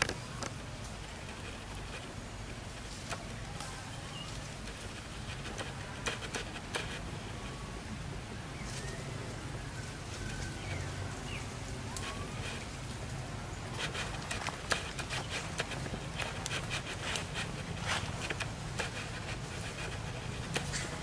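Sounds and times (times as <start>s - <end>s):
branches crackling and rustling: 0.0s - 21.0s
forest background: 0.0s - 21.0s.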